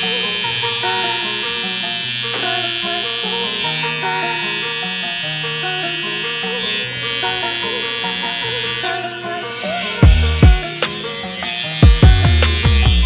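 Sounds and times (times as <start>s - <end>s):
background music: 0.0s - 13.0s
hair trimmer buzzing: 0.0s - 13.0s.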